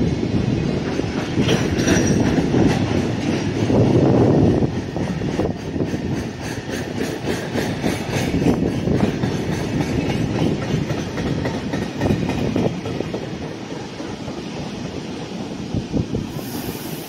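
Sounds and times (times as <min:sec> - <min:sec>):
knocks of train wheels: 0:00.0 - 0:15.5
train wheels rumbling on rails: 0:00.0 - 0:17.0.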